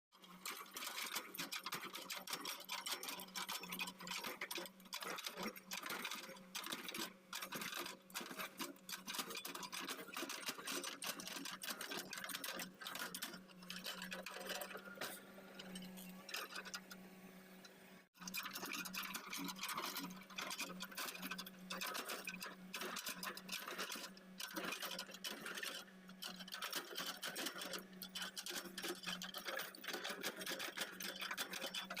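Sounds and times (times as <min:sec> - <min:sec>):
rapid mechanical clatter: 0:00.2 - 0:17.0, 0:18.2 - 0:32.0.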